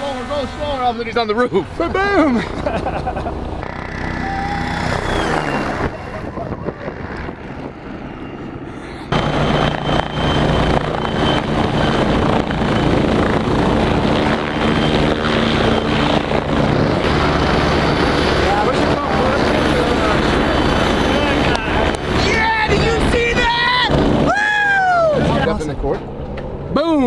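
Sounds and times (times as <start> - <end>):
helicopter rotor and engine: 0.0 - 27.0.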